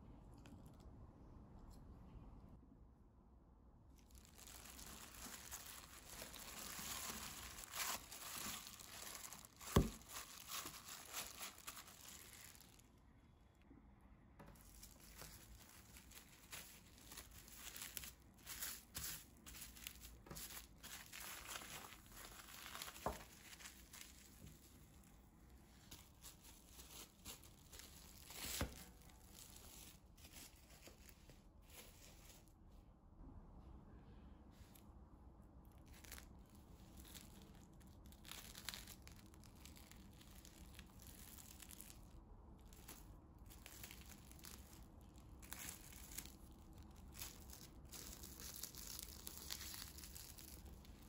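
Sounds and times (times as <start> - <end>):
cling film crinkling and rustling: 4.0 - 13.0, 14.4 - 32.5, 35.8 - 51.0.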